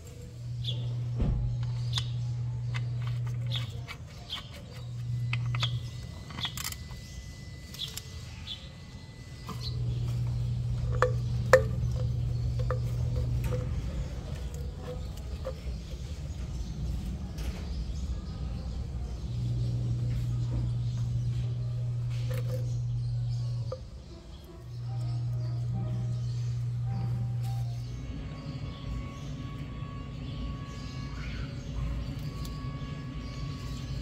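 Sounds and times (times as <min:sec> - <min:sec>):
birds chirping: 0:00.0 - 0:34.0
low hum: 0:00.0 - 0:34.0.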